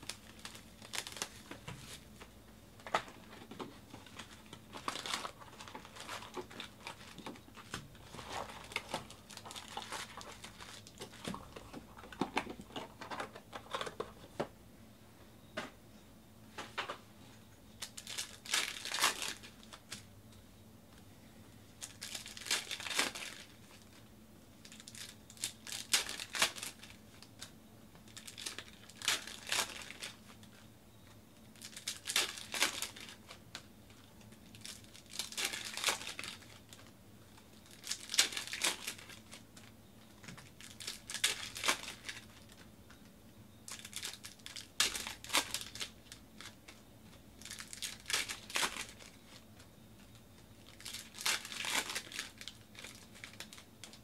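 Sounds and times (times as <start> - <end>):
foil wrappers crinkling and tearing: 0.0 - 2.2, 2.8 - 14.0, 17.8 - 20.1, 21.8 - 24.0, 24.6 - 30.6, 31.5 - 42.7, 43.7 - 54.0.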